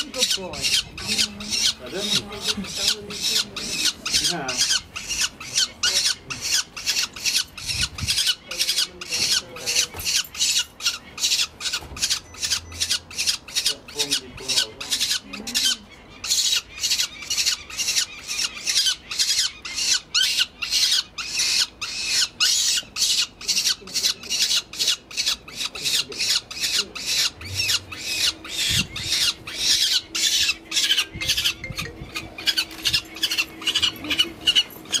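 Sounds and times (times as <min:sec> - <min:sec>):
falcon chick squawking: 0:00.0 - 0:35.0.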